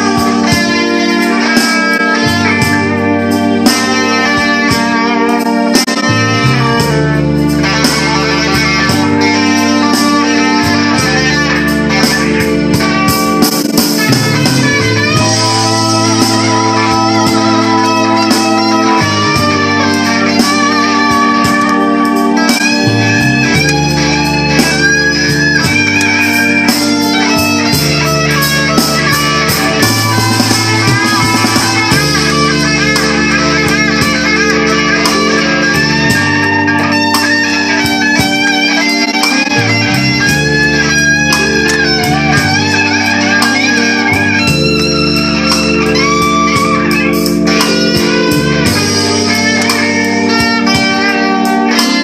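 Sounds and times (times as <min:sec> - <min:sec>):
blues backing track: 0:00.0 - 0:52.0
electric blues guitar lead: 0:00.0 - 0:52.0.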